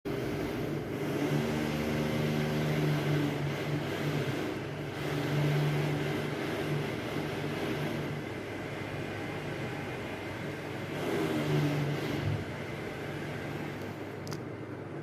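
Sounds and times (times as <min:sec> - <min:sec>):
low mechanical hum: 0:00.1 - 0:15.0.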